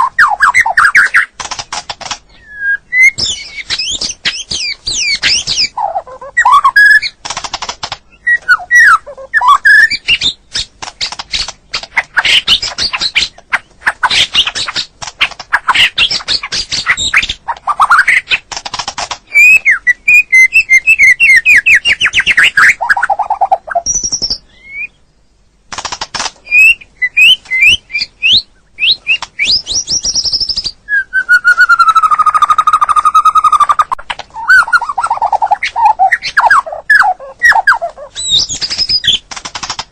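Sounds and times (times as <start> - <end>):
songbird singing varied song: 0.0 - 7.2, 8.0 - 14.9, 19.2 - 25.6, 26.4 - 39.3.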